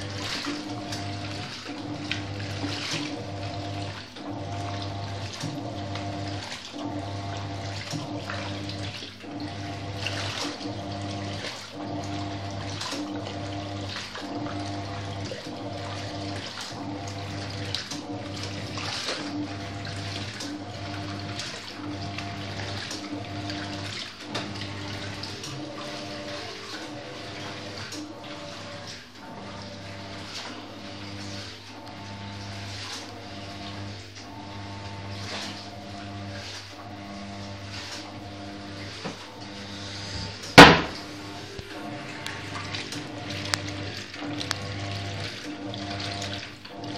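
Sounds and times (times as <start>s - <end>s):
washing machine motor hum: 0.0s - 46.9s
water sloshing in tub: 0.0s - 46.9s.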